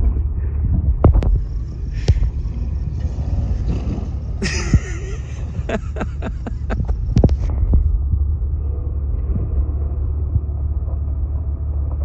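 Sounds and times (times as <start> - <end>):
truck engine rumbling under load: 0.0 - 12.0.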